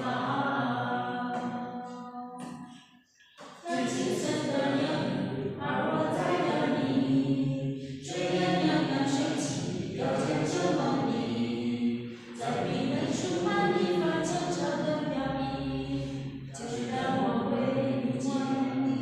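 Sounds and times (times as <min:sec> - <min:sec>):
voices reading aloud in unison: 0:00.0 - 0:02.7, 0:03.4 - 0:19.0.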